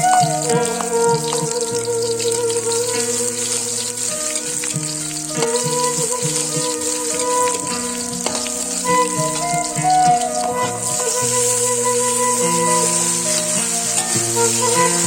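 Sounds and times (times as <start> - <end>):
food sizzling in a pan: 0.0 - 15.0
instrumental music: 0.0 - 15.0.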